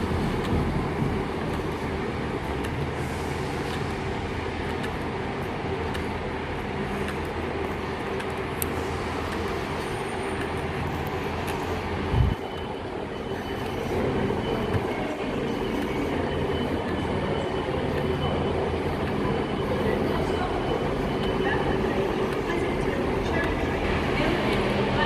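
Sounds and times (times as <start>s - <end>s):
train diesel engines humming: 0.0s - 25.0s.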